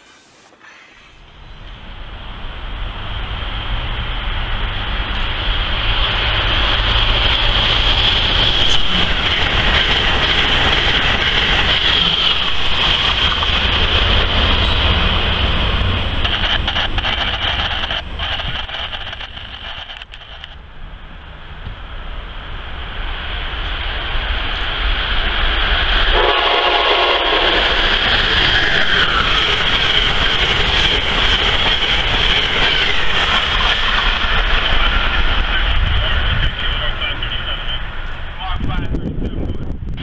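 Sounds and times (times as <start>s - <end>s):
high-speed train passing: 0.0s - 40.0s.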